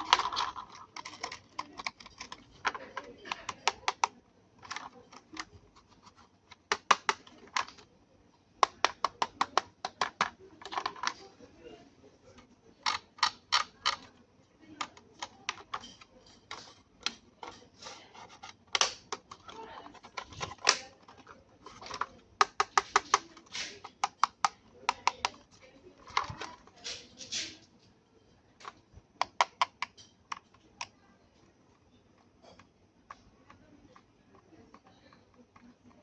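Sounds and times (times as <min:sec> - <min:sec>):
clicks and taps handling plastic: 0:00.0 - 0:07.9, 0:08.6 - 0:11.4, 0:12.2 - 0:28.0, 0:28.6 - 0:36.0.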